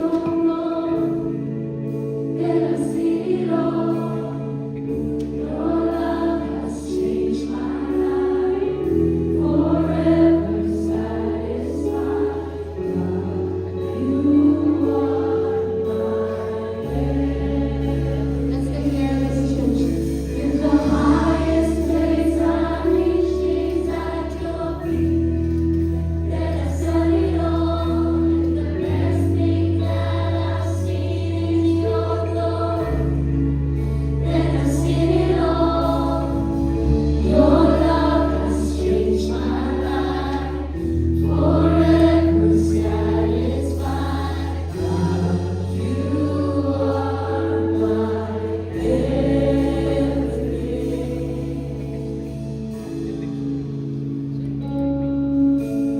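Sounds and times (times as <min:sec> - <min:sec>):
group singing worship song: 0:00.0 - 0:53.6
sustained bass chords: 0:00.0 - 0:55.9.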